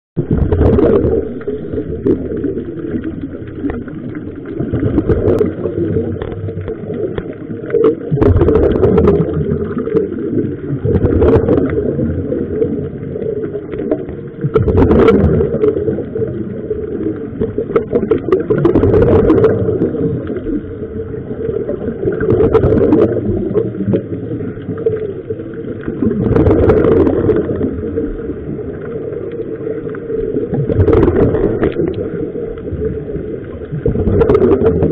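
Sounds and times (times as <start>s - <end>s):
bubbles gurgling underwater: 0.2s - 34.9s
underwater rumble: 0.2s - 34.9s.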